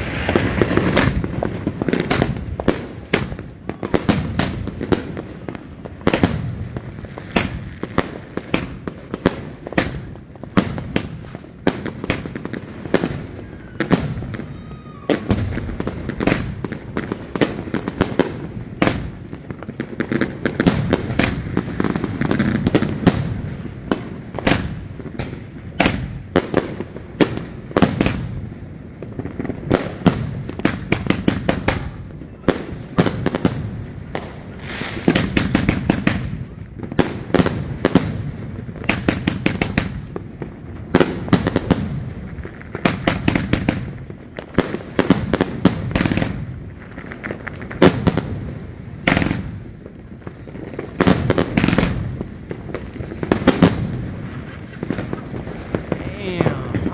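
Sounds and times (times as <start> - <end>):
firework cake bangs: 0.0 - 49.9.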